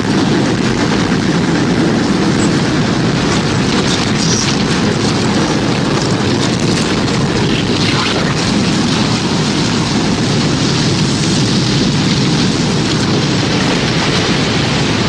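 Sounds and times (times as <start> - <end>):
heavy low rumble: 0.0 - 15.0
wind and rain rushing: 0.0 - 15.0.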